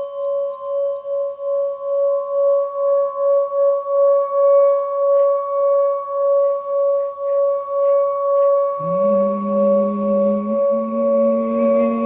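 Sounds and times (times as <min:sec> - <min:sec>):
lower tone: 0:00.0 - 0:12.0
singing bowl ringing tone: 0:00.0 - 0:12.0.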